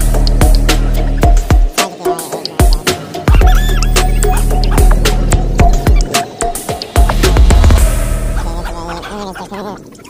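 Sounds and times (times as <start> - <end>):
music with heavy bass beat: 0.0 - 9.4.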